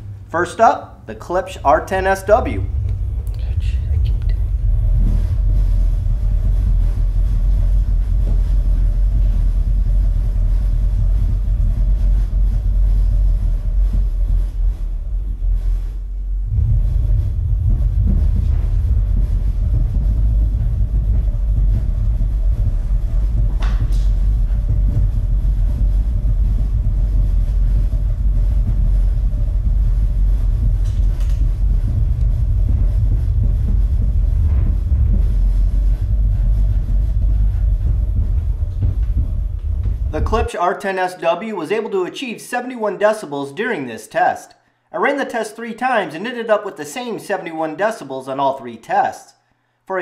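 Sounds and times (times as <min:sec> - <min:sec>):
deep bass rumble from soundtrack: 0:00.0 - 0:40.5.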